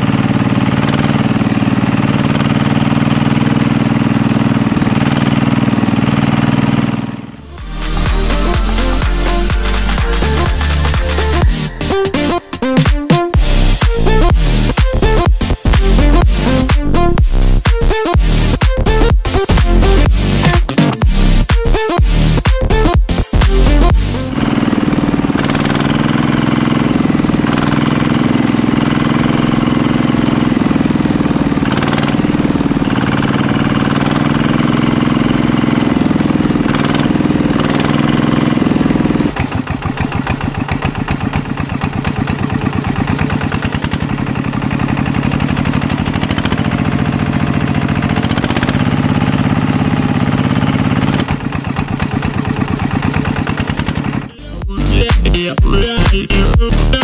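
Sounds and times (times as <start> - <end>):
motor humming and chugging: 0.0 - 57.0.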